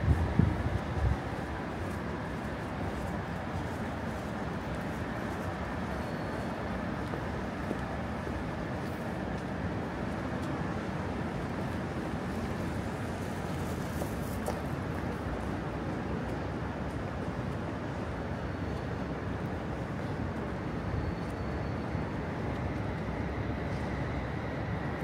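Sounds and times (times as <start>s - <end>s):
city road traffic hum: 0.0s - 25.0s.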